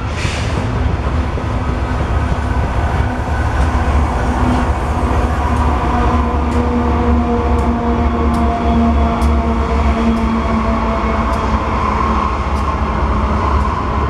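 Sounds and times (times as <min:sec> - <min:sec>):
rumble of wheels on rail: 0:00.0 - 0:14.0.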